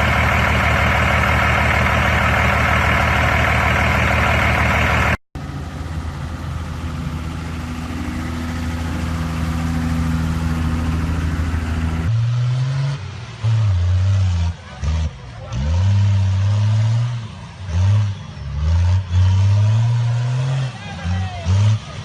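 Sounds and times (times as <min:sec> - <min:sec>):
diesel truck engine: 0:00.0 - 0:22.0.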